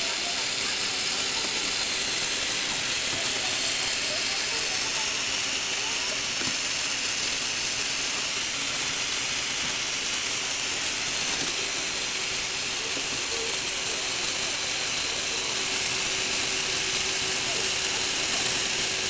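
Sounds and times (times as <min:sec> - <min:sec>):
whir of plastic gears and motors: 0:00.0 - 0:19.0.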